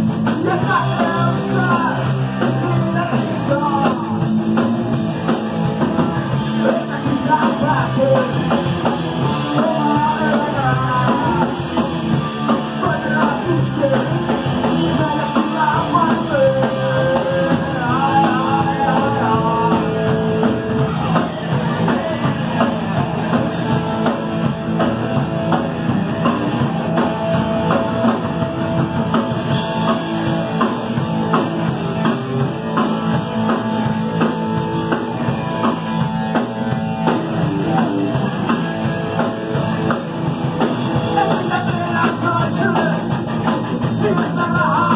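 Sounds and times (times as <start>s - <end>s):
punk rock band playing live: 0.0s - 44.9s.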